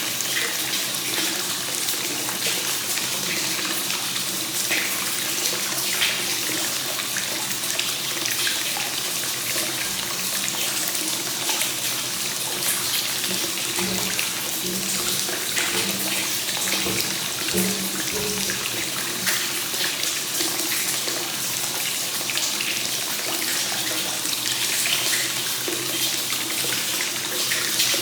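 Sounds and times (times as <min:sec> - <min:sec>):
water pouring into a bath: 0:00.0 - 0:28.0.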